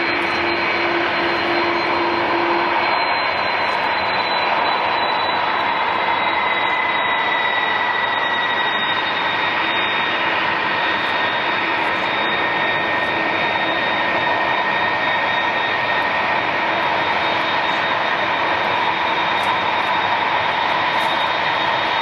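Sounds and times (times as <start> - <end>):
jet engines running with whine: 0.0 - 22.0.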